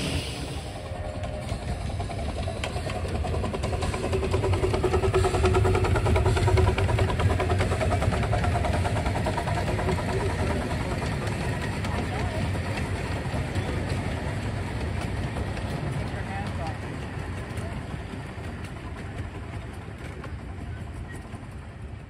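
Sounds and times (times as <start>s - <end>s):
small steam train passing: 0.0s - 22.0s
wheels clicking over rail joints: 0.6s - 22.0s.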